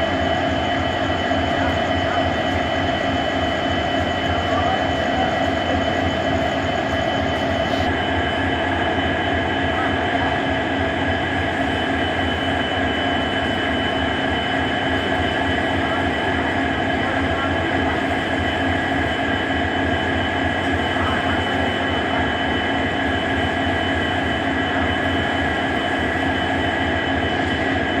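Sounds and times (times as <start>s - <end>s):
diesel locomotives idling: 0.0s - 28.0s.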